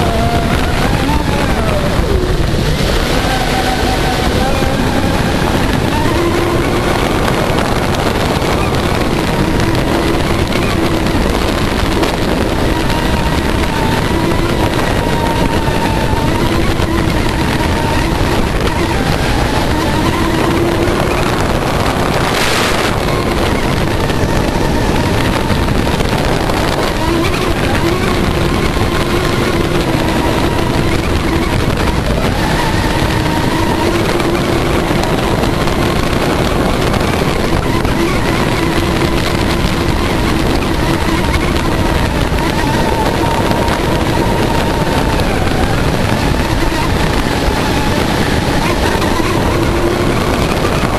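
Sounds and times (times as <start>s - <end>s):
high electric motor whine: 0.0s - 50.9s
water spray and wind rushing: 0.0s - 50.9s.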